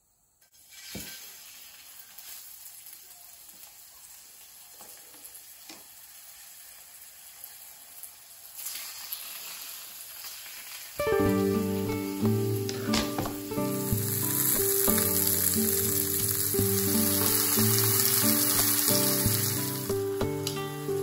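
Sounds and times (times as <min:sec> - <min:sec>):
chicken sizzling in a frying pan: 0:00.4 - 0:21.0.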